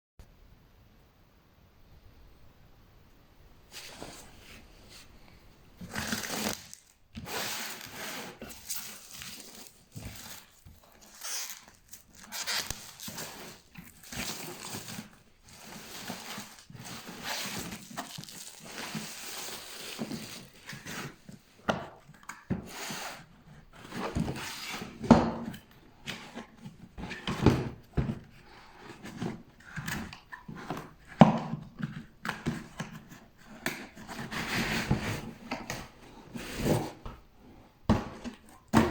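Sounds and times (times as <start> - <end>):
rustling and scraping: 3.7 - 38.9.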